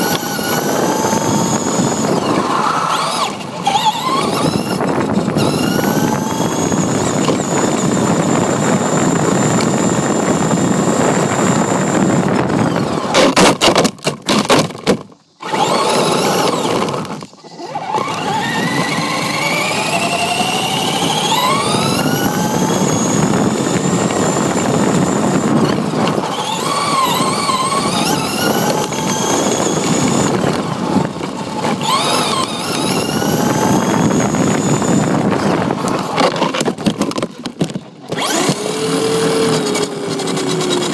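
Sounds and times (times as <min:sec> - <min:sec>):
electric motor whine: 0:00.0 - 0:13.4, 0:15.4 - 0:37.2, 0:38.1 - 0:40.9
rc truck tyres rumbling on pavement: 0:00.0 - 0:40.9.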